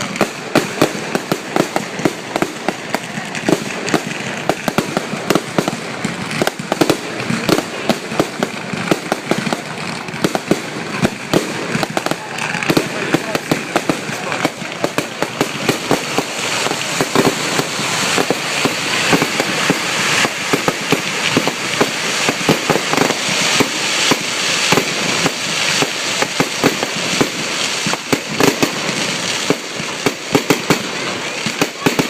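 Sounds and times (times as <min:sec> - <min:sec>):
fireworks bangs and pops: 0:00.0 - 0:32.0
fireworks crackle: 0:00.0 - 0:32.0.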